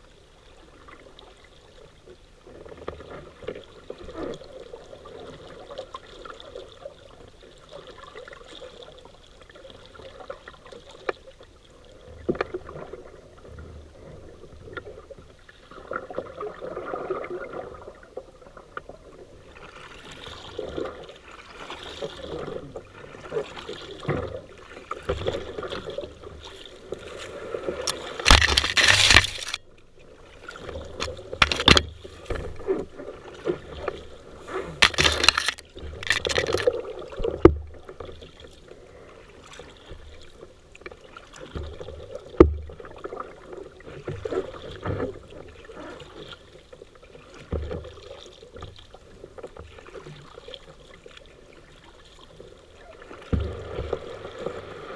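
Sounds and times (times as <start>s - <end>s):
river water splashing and gurgling: 0.0s - 54.9s.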